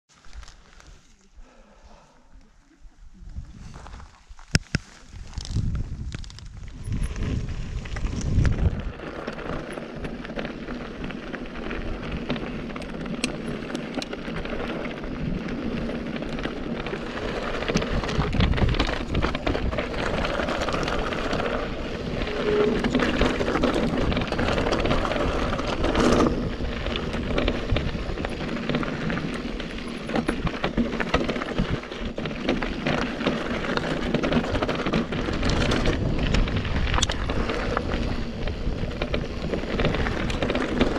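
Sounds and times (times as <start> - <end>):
rush of riding noise: 3.2 - 40.9
tyres crunching over gravel: 3.6 - 40.9
bike clicks and rattles: 4.1 - 40.9.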